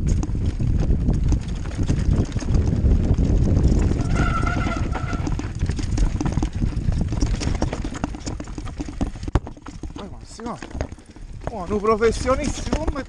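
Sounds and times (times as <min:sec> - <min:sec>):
bike clattering: 0:00.0 - 0:13.0
tyres crunching over stones: 0:00.0 - 0:13.0
wind rumble on microphone: 0:00.0 - 0:13.0.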